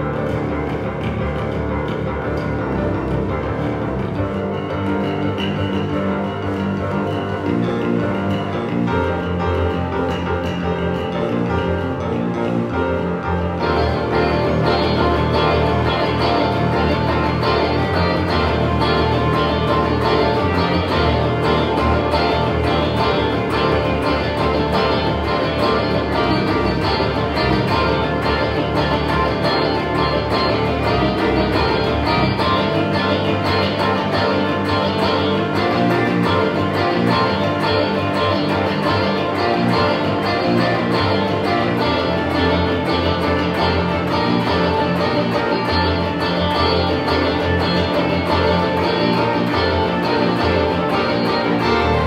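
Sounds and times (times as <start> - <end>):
live band playing repeated figures: 0.0 - 52.0.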